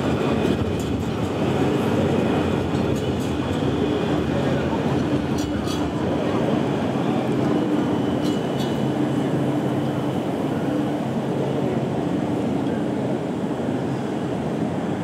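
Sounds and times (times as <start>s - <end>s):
street noise: 0.0s - 15.0s
tram humming: 0.0s - 15.0s.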